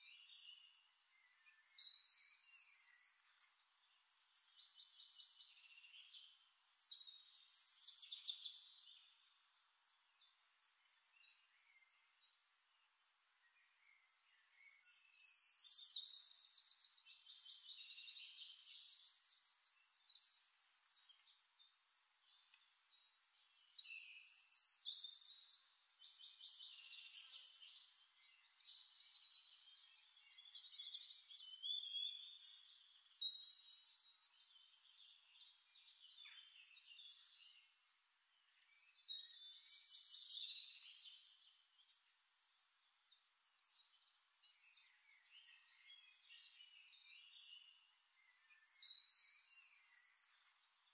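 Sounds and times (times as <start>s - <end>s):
songbirds trilling and warbling: 0.0s - 50.9s.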